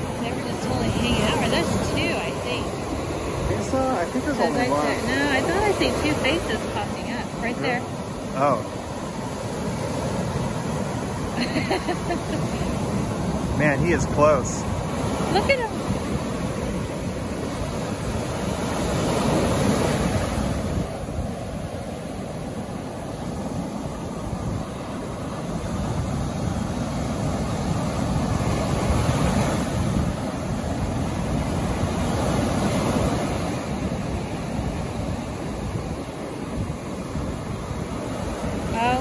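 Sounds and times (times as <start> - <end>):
ocean waves breaking on beach: 0.0 - 39.0.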